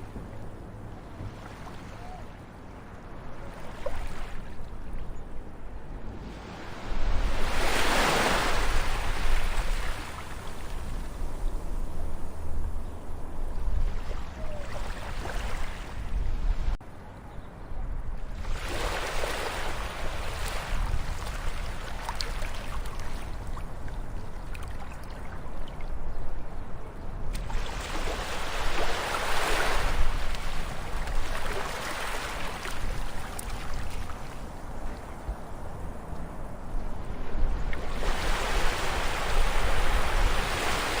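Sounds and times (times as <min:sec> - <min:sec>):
ocean waves breaking on shore: 0:00.0 - 0:11.9, 0:13.6 - 0:16.8, 0:18.2 - 0:26.0, 0:27.3 - 0:41.0.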